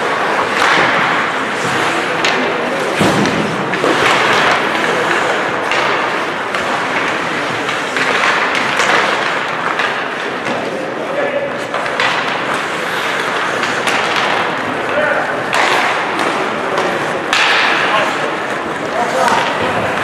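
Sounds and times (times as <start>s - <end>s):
hockey sticks and puck knocking: 0.0s - 20.0s
skates scraping on ice: 0.0s - 20.0s.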